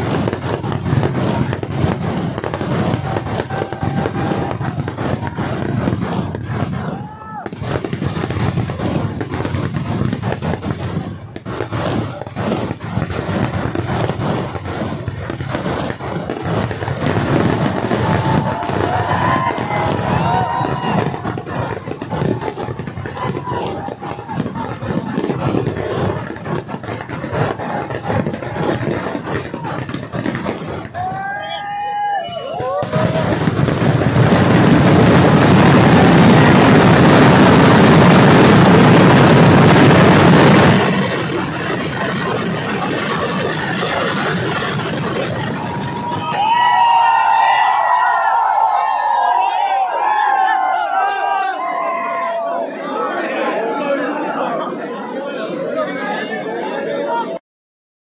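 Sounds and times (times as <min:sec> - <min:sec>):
rapid firecracker bangs: 0:00.0 - 0:50.9.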